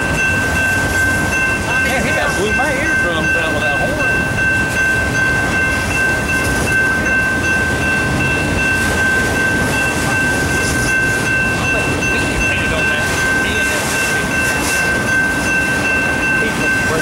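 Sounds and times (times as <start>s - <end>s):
high-pitched tone: 0.0s - 17.0s
train wheels rumbling on rails: 0.0s - 17.0s.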